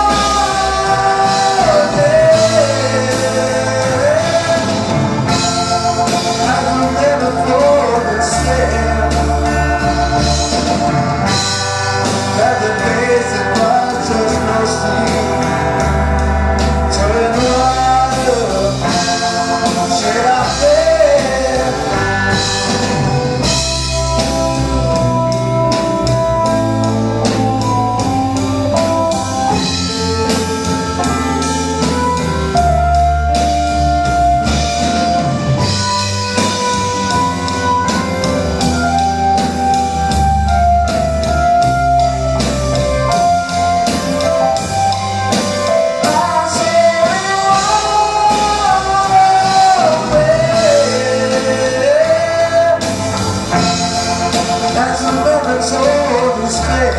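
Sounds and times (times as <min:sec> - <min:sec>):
bass guitar: 0:00.0 - 0:56.9
drum kit: 0:00.0 - 0:56.9
electric guitars: 0:00.0 - 0:56.9
keyboard melody: 0:00.0 - 0:56.9.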